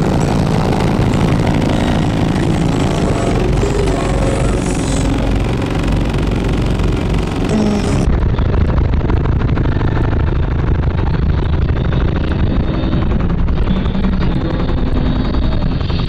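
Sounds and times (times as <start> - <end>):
distorted bass-heavy car music: 0.0 - 16.0.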